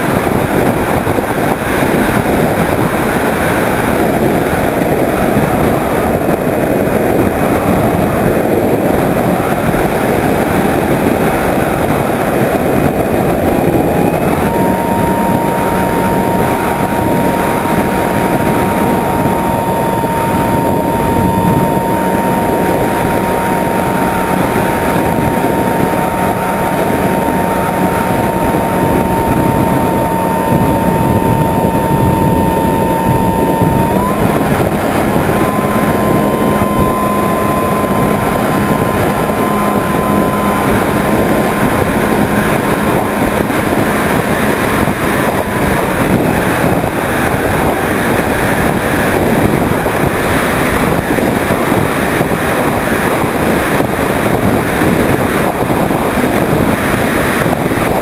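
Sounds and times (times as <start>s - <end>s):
electric motor whine: 0.0s - 58.0s
wind rush on microphone: 0.0s - 58.0s.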